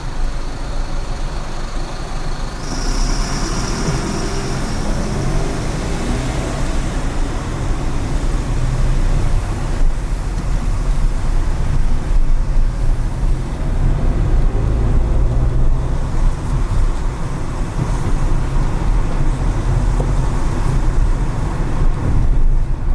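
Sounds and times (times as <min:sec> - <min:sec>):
car road rumble: 0:00.0 - 0:22.9
tyre hiss on wet road: 0:02.6 - 0:22.5.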